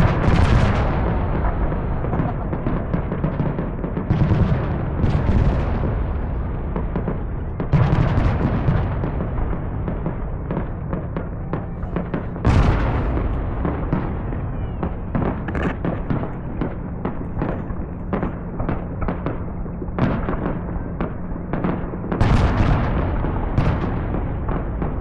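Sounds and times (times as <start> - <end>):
fireworks exploding: 0.0 - 25.0
heavy firework boom: 0.0 - 25.0.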